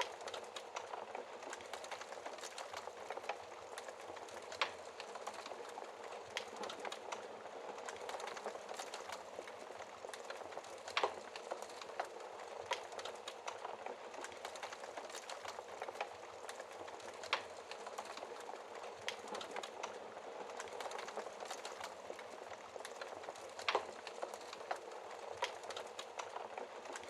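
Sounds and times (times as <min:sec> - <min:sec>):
fire crackling: 0:00.0 - 0:27.0
fire popping: 0:00.0 - 0:27.0.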